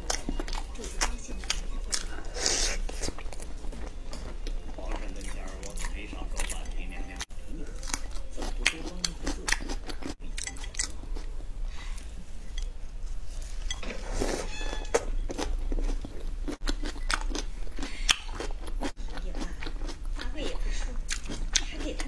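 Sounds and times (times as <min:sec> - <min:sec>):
wet chewing: 0:00.0 - 0:12.7, 0:13.7 - 0:22.0.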